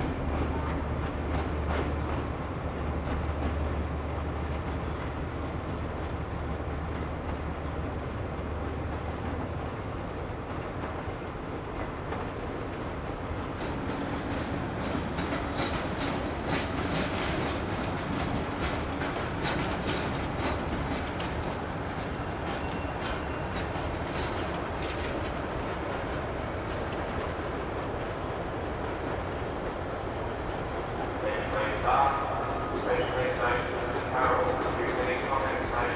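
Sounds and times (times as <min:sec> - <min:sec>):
train wheels clattering over rails: 0:00.0 - 0:35.9.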